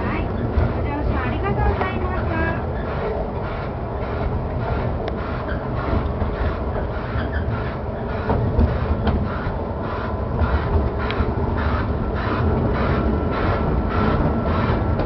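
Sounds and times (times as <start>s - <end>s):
ride train rumbling on track: 0.0s - 15.0s.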